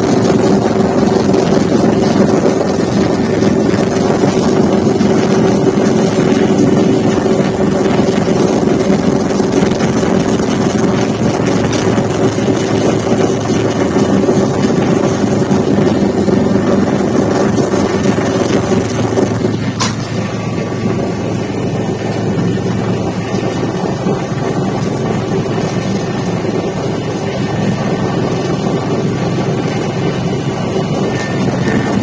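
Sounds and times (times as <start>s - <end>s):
aircraft cabin engine drone: 0.0s - 32.0s.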